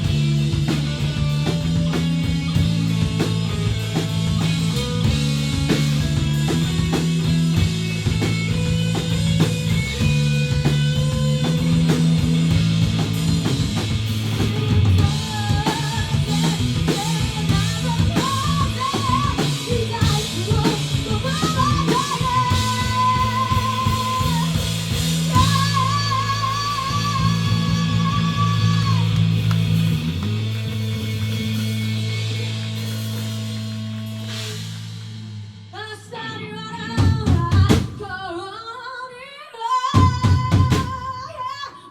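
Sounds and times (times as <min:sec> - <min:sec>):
steady low bass notes: 0:00.0 - 0:35.6
electric guitar: 0:00.0 - 0:38.4
drum kit: 0:00.0 - 0:38.6, 0:39.8 - 0:41.3.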